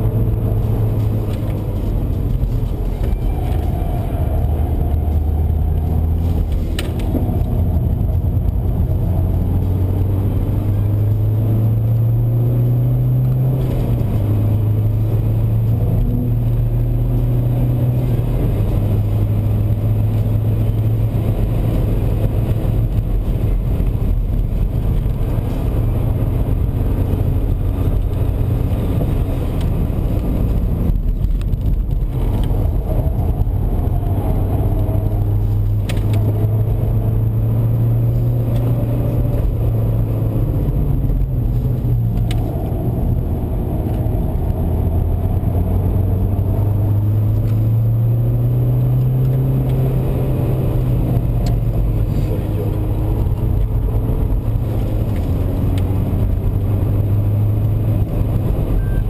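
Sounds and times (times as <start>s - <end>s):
diesel engine accelerating: 0.0s - 59.0s
tyre and wind noise: 0.0s - 59.0s.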